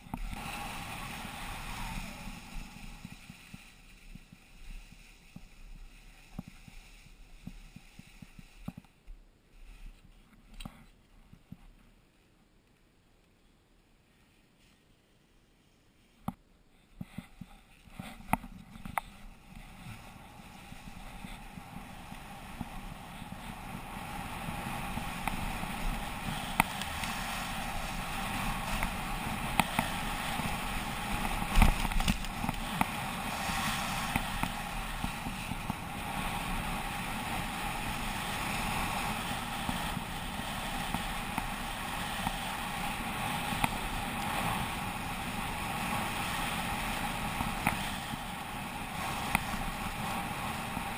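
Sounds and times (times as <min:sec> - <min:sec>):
wind rushing on microphone: 0:00.0 - 0:08.9, 0:17.0 - 0:50.9
skis sliding over snow: 0:00.0 - 0:12.0, 0:14.1 - 0:16.2, 0:16.8 - 0:50.9.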